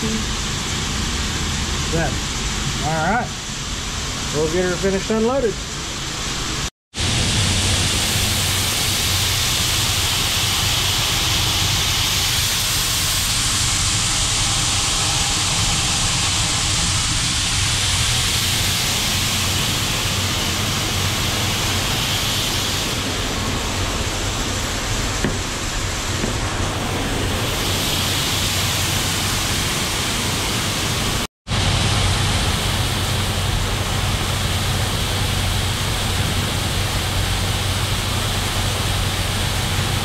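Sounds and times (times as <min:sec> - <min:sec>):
low machinery hum: 0:00.0 - 0:40.0
grain pouring with rushing hiss: 0:00.2 - 0:40.0.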